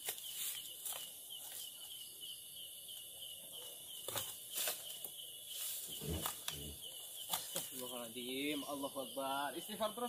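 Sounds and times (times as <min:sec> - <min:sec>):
night insects chirping: 0:00.0 - 0:10.0.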